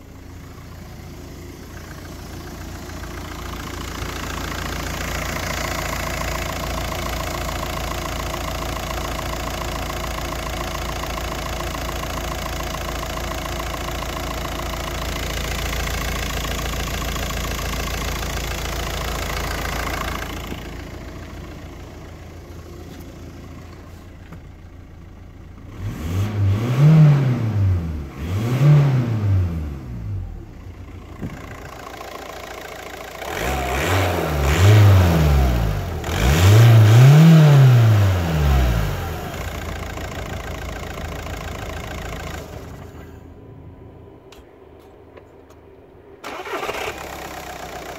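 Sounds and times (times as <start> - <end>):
diesel engine idling and revving: 0.0 - 47.9.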